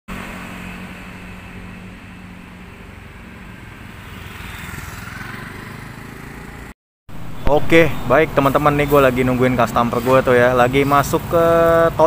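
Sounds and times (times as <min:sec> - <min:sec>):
street traffic: 0:00.1 - 0:12.0
vehicle passing: 0:00.1 - 0:12.0.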